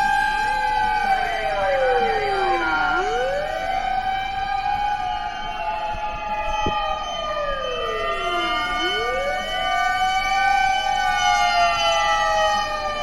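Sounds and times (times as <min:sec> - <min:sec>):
fire engine sirens: 0:00.0 - 0:13.0.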